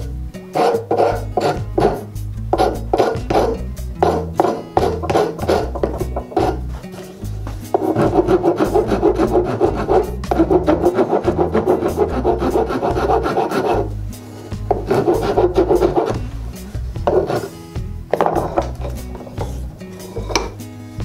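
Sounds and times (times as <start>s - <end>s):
wood rasp strokes on wood: 0.0s - 20.6s.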